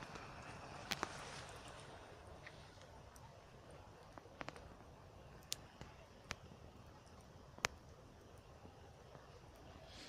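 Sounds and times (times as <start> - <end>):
faint steady background noise: 0.0 - 10.0.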